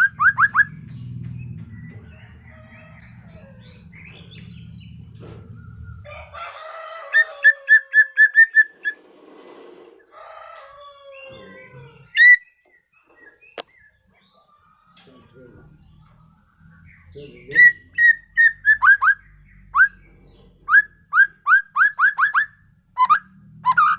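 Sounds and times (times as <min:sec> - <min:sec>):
bird singing whistled notes: 0:00.0 - 0:06.1, 0:07.8 - 0:09.0, 0:11.3 - 0:23.9.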